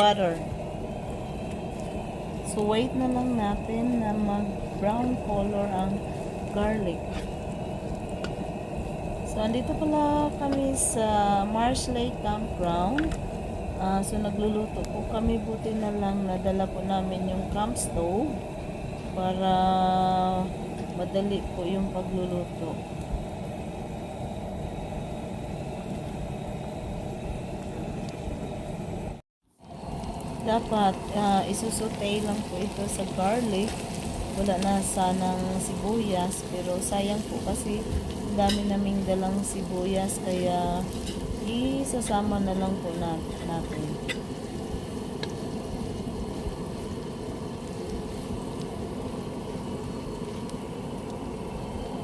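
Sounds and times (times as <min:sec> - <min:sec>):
onion frying in butter: 0:00.0 - 0:26.4, 0:29.5 - 0:52.0
camp stove burner roaring: 0:00.0 - 0:52.0.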